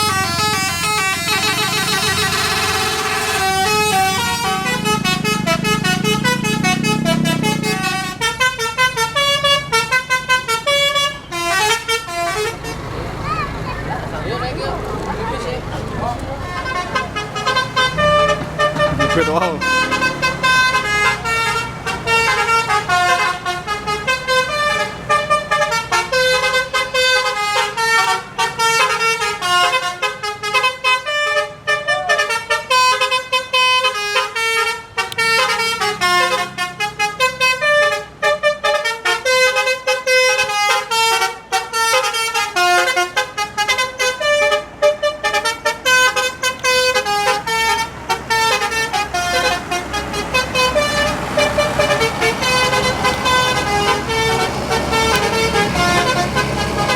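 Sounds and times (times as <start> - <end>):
multi-tone bus horn tune: 0.0 - 13.6, 15.1 - 56.9.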